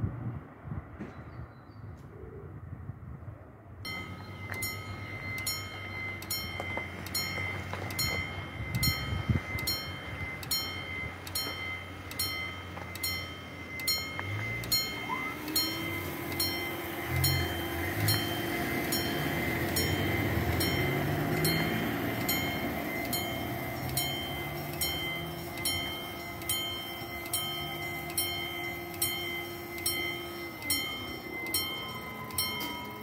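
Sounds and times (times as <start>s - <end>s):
level crossing warning bell ringing: 3.8s - 33.0s
barrier motor hum: 3.9s - 33.0s.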